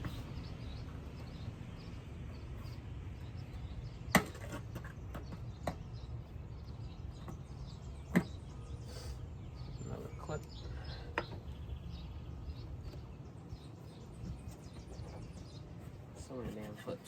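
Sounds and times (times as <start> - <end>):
faint bird chirps: 0.0 - 17.0
outdoor background hum: 0.0 - 17.0.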